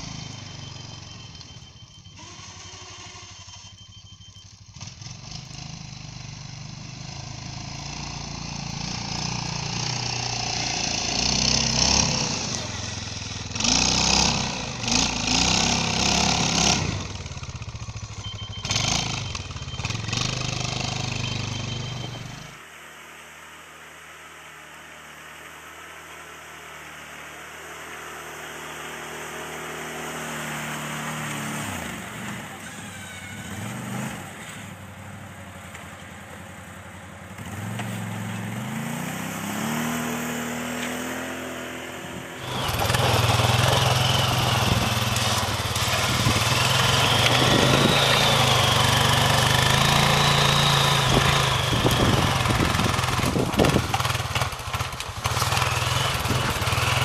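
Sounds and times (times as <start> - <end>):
quad engine revving: 0.0 - 22.6, 25.0 - 35.7, 37.3 - 57.0
quad engine with high whine: 0.0 - 57.0.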